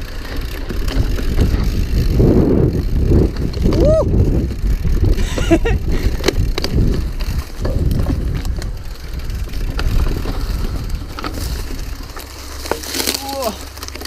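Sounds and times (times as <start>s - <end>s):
bike knocking and rattling: 0.0s - 14.0s
bike tyres rumbling on dirt: 0.0s - 14.0s.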